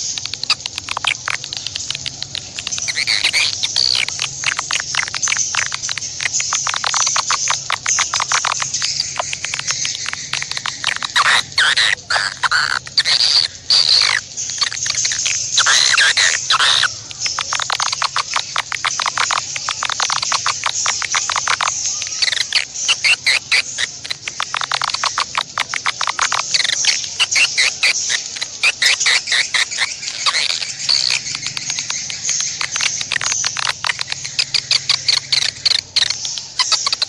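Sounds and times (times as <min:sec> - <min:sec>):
bird chattering trills: 0:00.0 - 0:37.0
whistled bird notes: 0:00.0 - 0:37.0.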